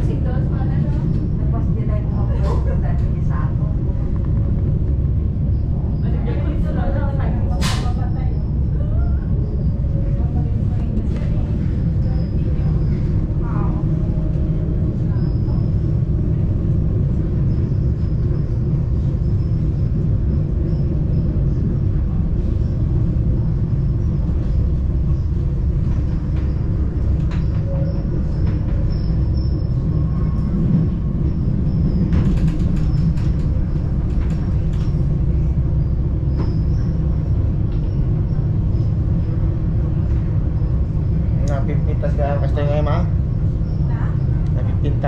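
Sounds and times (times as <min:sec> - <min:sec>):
train rumbling: 0:00.0 - 0:45.0.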